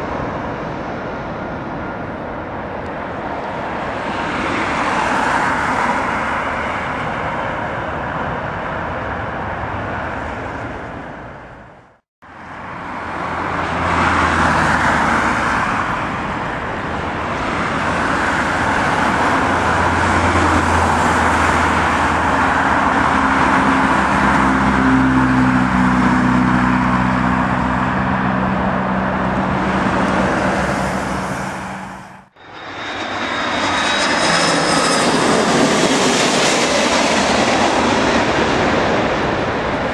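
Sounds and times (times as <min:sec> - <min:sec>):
jet airliner engines: 0:00.0 - 0:39.9.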